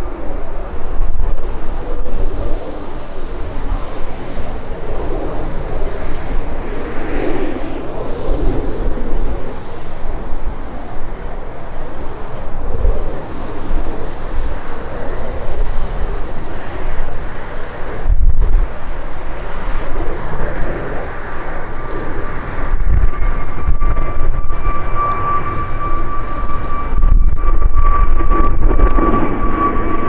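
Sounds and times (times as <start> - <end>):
jet airliner roar: 0.0 - 30.0
wind rumble on microphone: 0.0 - 30.0.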